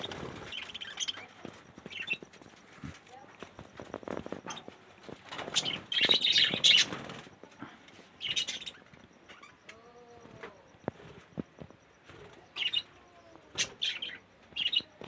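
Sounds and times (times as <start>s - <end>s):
budgies chirping and chattering: 0.0s - 15.0s.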